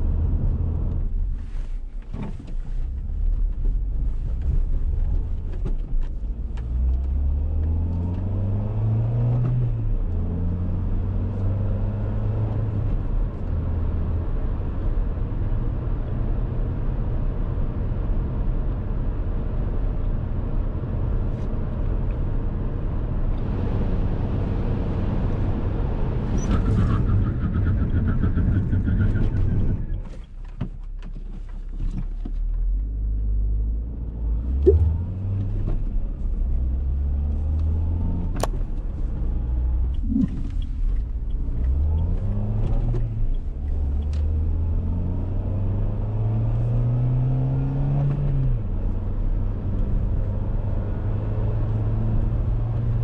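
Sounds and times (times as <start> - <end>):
road and tyre noise: 0.0 - 53.0
car engine accelerating: 2.2 - 17.2, 21.9 - 30.3, 31.4 - 53.0.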